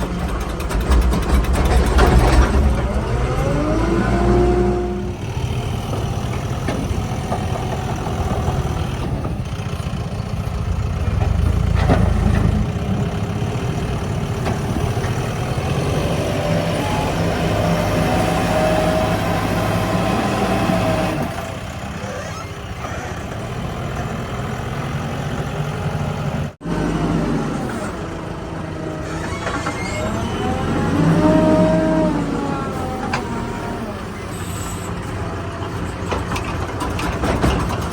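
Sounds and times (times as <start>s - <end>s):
heavy diesel engines running: 0.0s - 37.9s.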